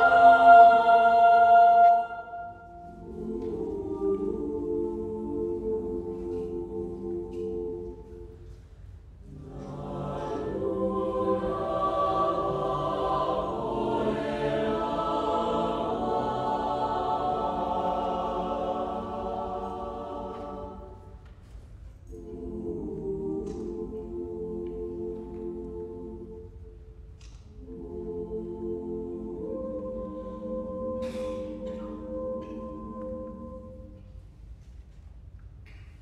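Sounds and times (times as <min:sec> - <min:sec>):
mixed choir singing: 0:00.0 - 0:08.6, 0:09.2 - 0:21.2, 0:22.0 - 0:26.8, 0:27.5 - 0:34.2.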